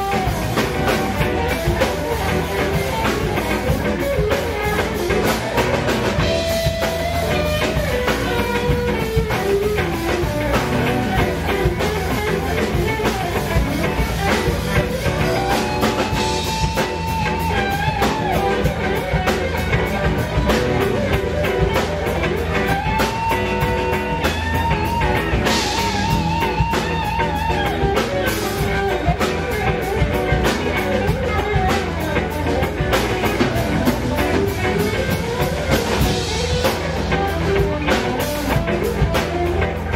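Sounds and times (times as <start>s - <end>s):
drum kit beat: 0.0s - 39.9s
electric guitar lead: 0.0s - 39.9s.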